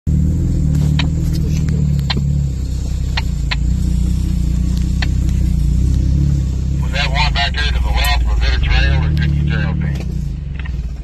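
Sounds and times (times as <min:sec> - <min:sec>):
vehicle engine low rumble: 0:00.1 - 0:11.0.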